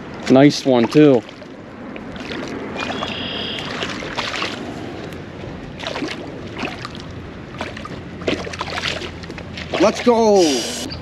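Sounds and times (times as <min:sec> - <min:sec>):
fish splashing at water surface: 0:00.8 - 0:05.1, 0:05.8 - 0:10.6.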